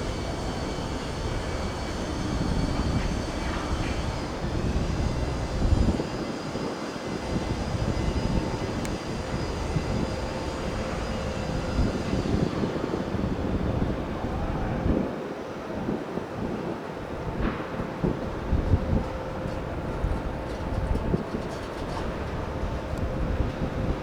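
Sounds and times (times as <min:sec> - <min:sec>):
electric train passing: 0:00.0 - 0:24.0
wind buffeting microphone: 0:00.0 - 0:24.0.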